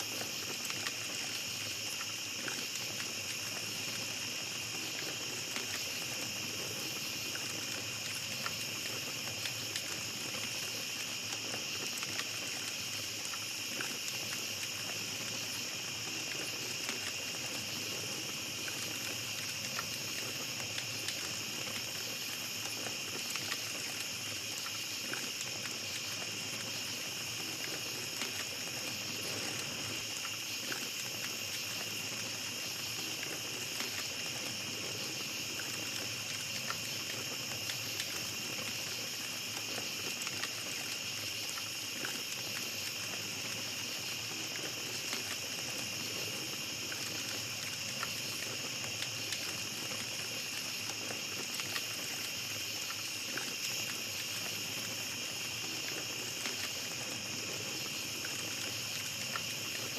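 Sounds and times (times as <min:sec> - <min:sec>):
campfire crackles: 0:00.0 - 0:59.9
night insects chorus: 0:00.0 - 0:59.9.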